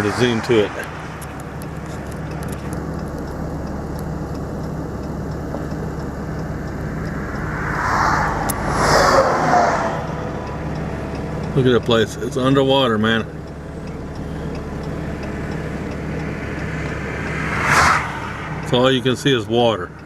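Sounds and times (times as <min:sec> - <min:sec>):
engine idling: 0:00.0 - 0:20.0
vehicle passing: 0:00.0 - 0:20.0.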